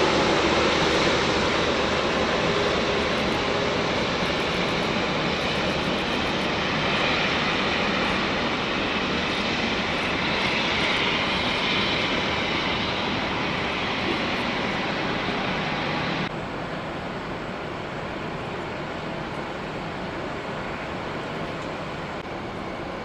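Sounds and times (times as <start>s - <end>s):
jet engines at taxi power: 0.0s - 23.0s.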